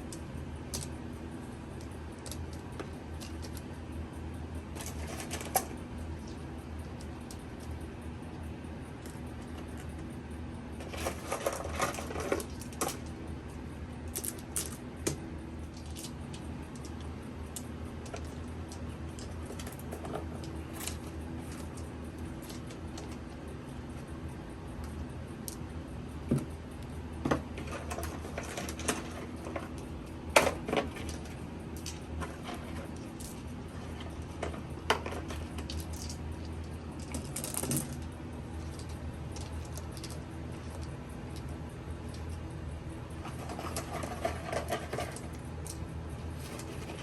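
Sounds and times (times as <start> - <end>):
small objects clicking and knocking: 0.0 - 3.8, 4.7 - 7.8, 10.8 - 24.1, 26.3 - 42.4, 43.1 - 47.0
steady low hum: 0.0 - 47.0.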